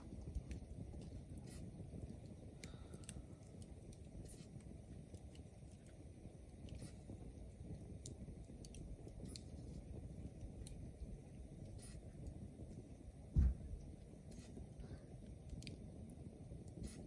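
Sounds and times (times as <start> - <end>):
fire crackles and pops: 0.0 - 17.0
fire low rumble: 0.0 - 17.0.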